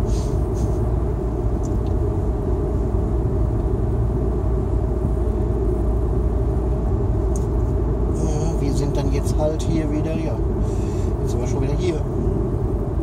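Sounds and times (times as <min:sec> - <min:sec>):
car driving heard from inside: 0:00.0 - 0:13.0.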